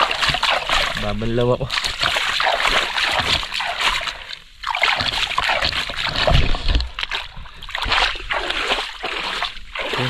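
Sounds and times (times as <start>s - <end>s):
river water splashing: 0.0s - 10.0s.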